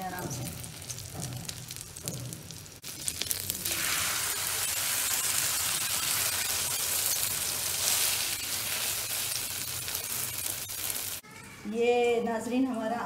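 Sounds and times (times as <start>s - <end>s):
omelette sizzling: 0.0s - 11.3s.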